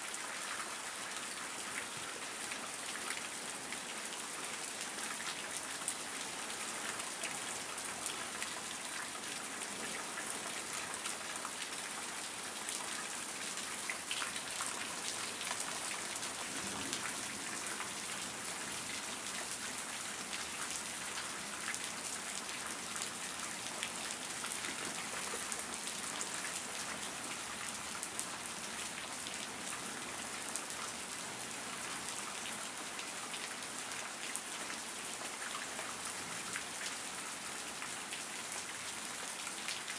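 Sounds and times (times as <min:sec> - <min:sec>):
rain on grass and concrete: 0:00.0 - 0:39.9.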